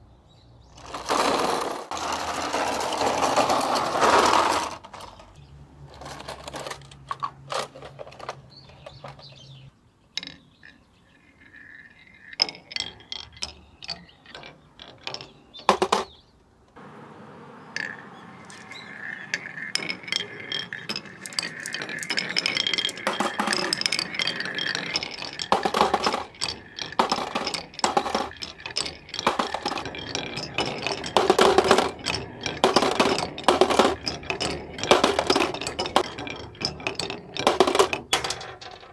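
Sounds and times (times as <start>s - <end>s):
marbles rolling on wooden tracks: 0.7s - 16.2s, 17.8s - 38.9s
marbles clinking into plastic toy: 0.8s - 9.6s, 10.2s - 16.0s, 17.8s - 38.9s
marbles clicking and knocking: 0.8s - 16.1s, 17.8s - 38.9s.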